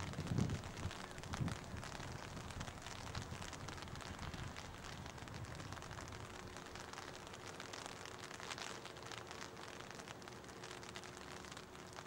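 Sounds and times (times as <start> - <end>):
rain patter: 0.0 - 12.0.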